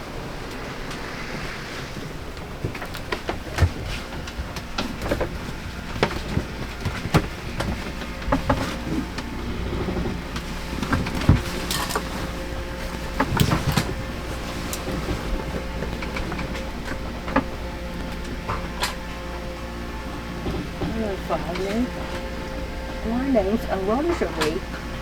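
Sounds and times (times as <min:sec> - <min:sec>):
steady low hum: 0:00.0 - 0:25.0
yacht clicks knocks and creaks: 0:02.3 - 0:25.0.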